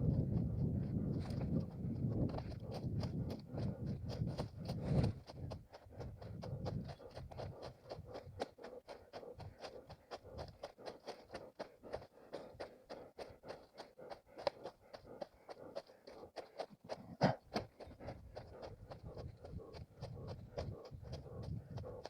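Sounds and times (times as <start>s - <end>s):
running footsteps on forest ground: 0.0s - 22.0s.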